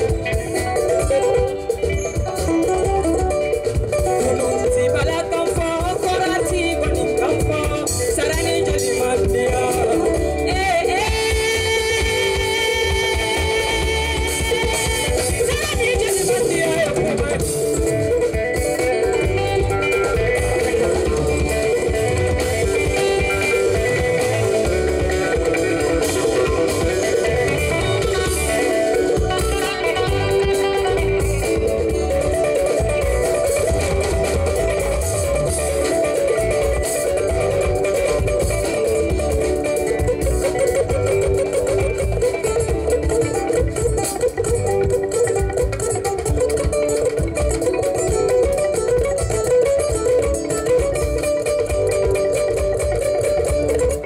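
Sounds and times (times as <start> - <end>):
drum kit with cymbals: 0.0 - 54.0
guitar playing a groove: 0.0 - 54.0.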